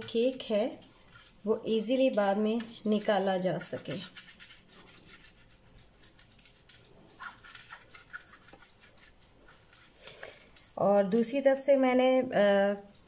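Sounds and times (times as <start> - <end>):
brush rubbing on metal tray: 0.0 - 10.8.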